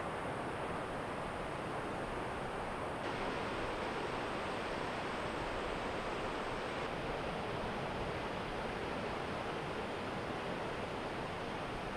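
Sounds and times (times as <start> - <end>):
wind: 0.0 - 11.9.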